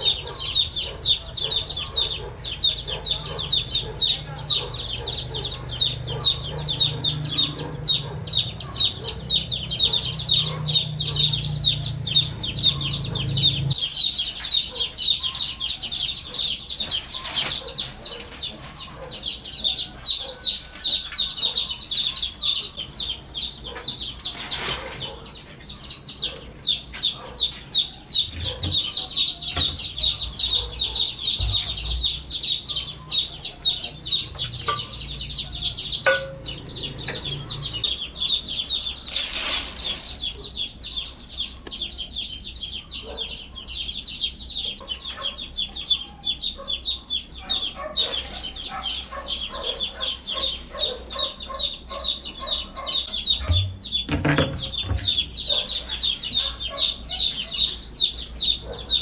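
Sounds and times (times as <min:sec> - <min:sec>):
chickens peeping and clucking: 0:00.0 - 0:59.0.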